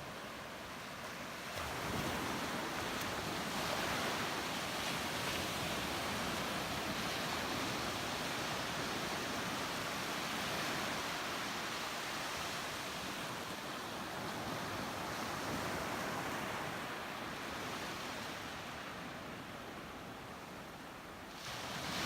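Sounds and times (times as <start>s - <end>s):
ocean surf washing: 0.0s - 22.0s.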